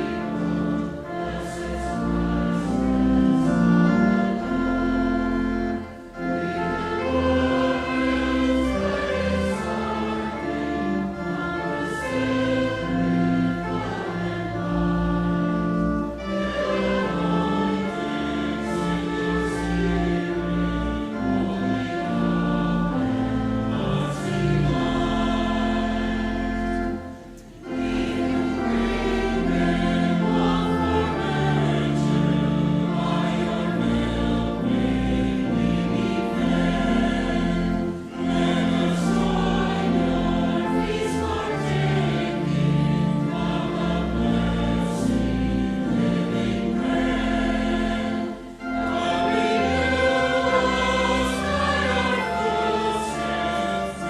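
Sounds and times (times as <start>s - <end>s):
choir singing: 0.0s - 54.0s
low accompaniment: 0.0s - 54.0s.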